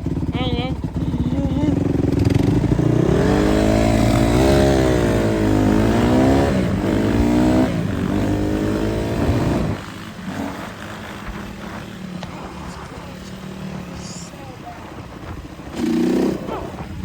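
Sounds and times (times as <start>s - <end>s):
dirt bike engine revving: 0.0s - 14.2s, 15.1s - 17.0s.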